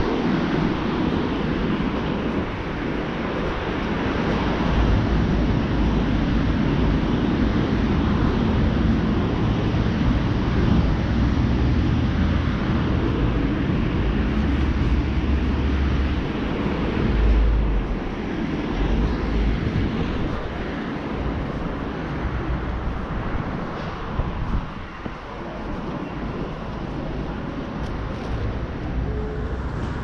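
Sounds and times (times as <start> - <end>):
cars passing rumble: 0.0 - 30.0.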